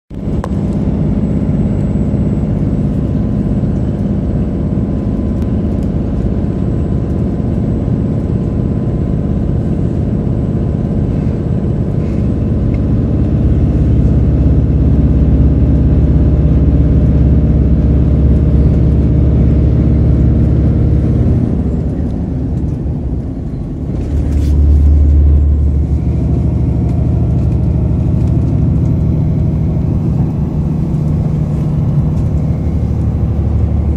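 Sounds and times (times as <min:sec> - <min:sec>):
engine drone: 0:00.1 - 0:33.9
vehicle cabin rumble: 0:00.1 - 0:33.9.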